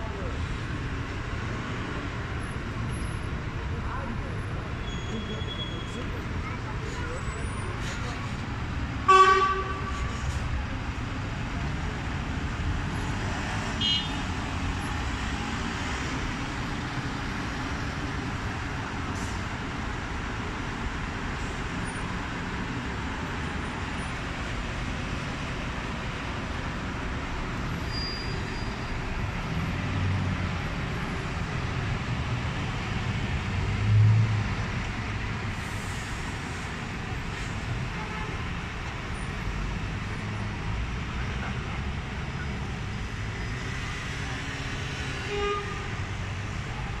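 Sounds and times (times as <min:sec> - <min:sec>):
city street traffic: 0:00.0 - 0:47.0.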